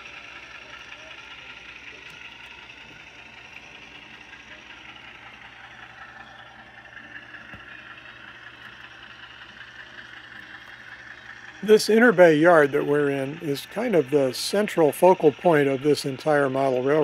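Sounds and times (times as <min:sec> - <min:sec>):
diesel engine through small speaker: 0:00.0 - 0:17.0.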